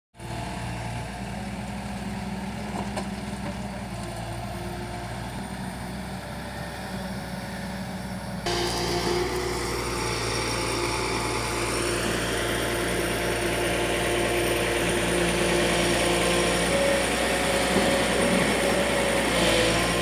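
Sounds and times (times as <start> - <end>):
diesel engine idling: 0.2 - 20.0.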